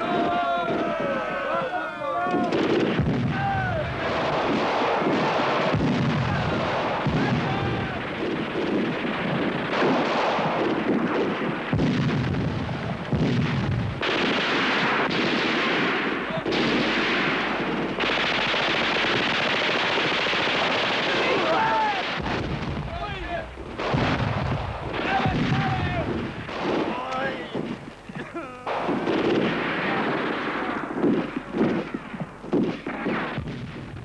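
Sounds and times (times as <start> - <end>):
artillery blasts: 0.0 - 1.6, 2.2 - 27.9, 28.7 - 34.0
machine-gun fire: 2.3 - 27.9, 28.7 - 34.0.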